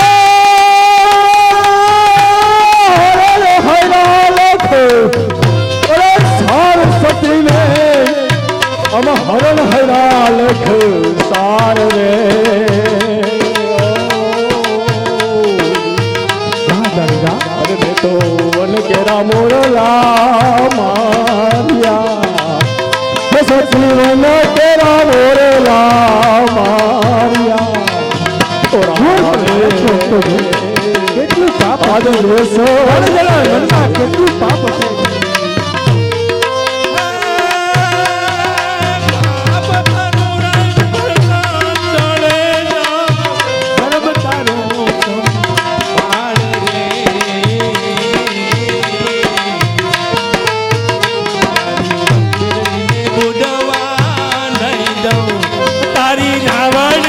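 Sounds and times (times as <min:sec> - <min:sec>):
accompanying melody: 0:00.0 - 0:57.0
hand drum rhythm: 0:00.0 - 0:57.0.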